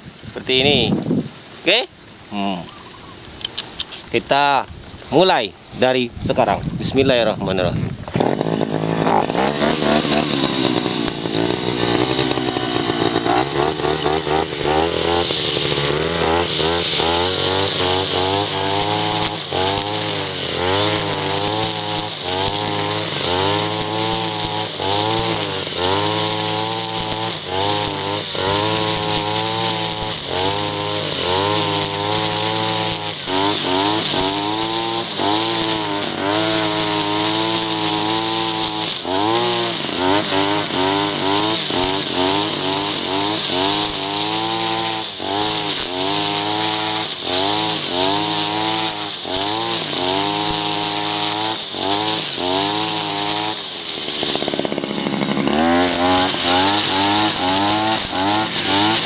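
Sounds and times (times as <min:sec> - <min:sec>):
brush cutter engine: 0:00.0 - 0:59.0
nylon line cutting grass: 0:00.0 - 0:59.0.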